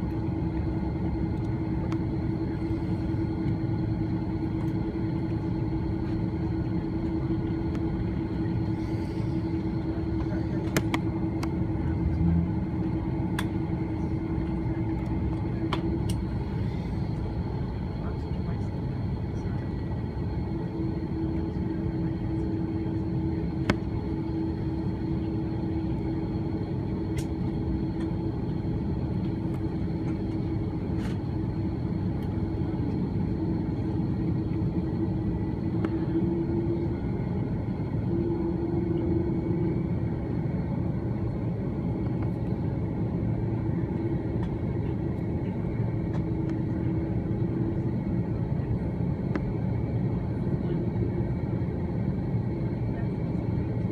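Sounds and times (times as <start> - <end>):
steady hum: 0.0 - 53.8
aircraft cabin rumble: 0.0 - 53.9.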